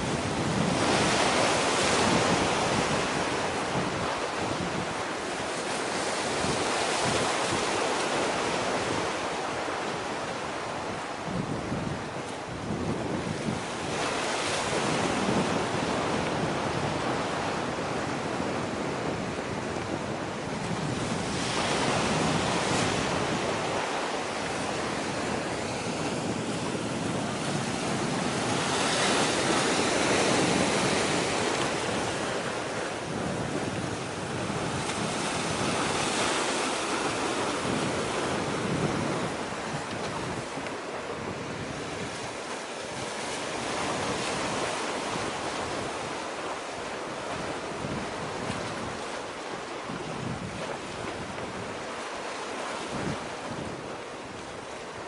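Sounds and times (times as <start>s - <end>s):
sea waves washing ashore: 0.0s - 55.0s
wind buffeting microphone: 0.0s - 55.0s.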